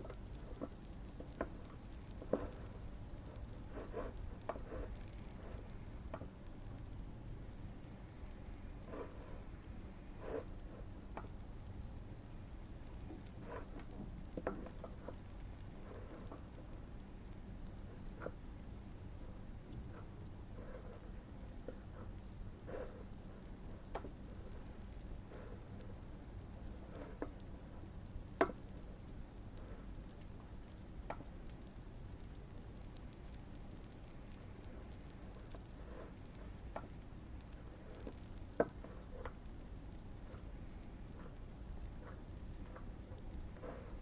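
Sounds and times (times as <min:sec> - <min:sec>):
faint fireplace crackle: 0:00.0 - 0:44.0.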